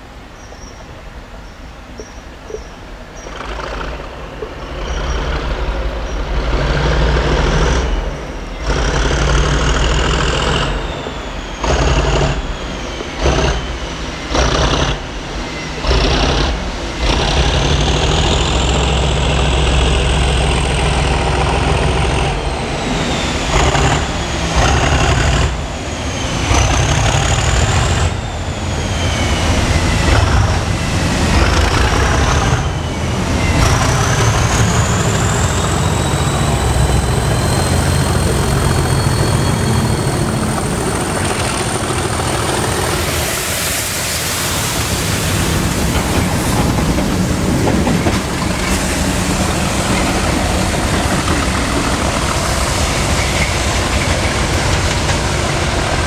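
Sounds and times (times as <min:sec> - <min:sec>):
diesel locomotive engine: 0:00.0 - 0:56.0
turbocharger whine: 0:04.7 - 0:56.0.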